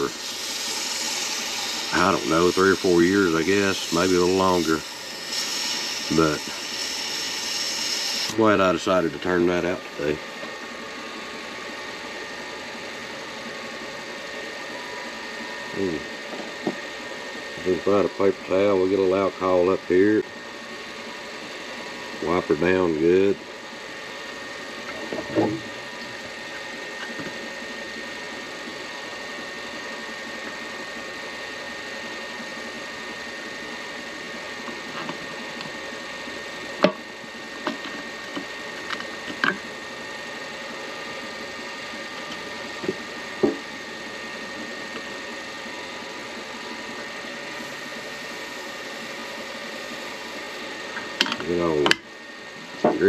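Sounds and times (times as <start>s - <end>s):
lathe motor humming: 0.0s - 53.0s.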